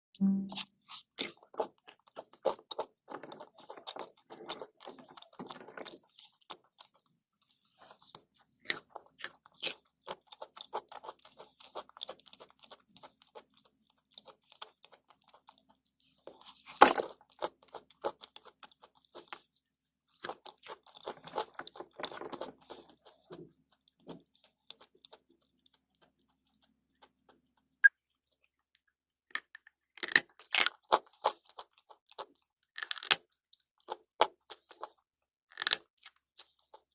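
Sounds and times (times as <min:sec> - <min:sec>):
crunching and chewing chalk: 0:00.6 - 0:36.9.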